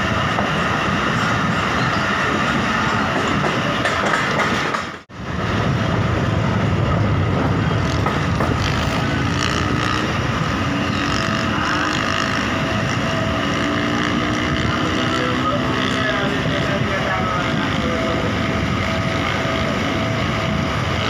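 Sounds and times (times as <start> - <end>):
train rumbling: 0.0 - 21.0
wind noise: 0.0 - 21.0.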